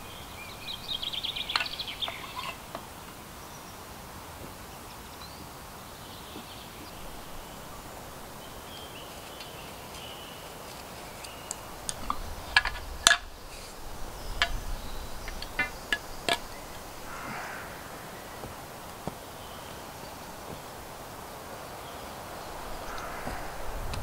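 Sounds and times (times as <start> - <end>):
faint bird chirps: 0.0 - 3.8, 4.7 - 20.8, 21.8 - 24.0.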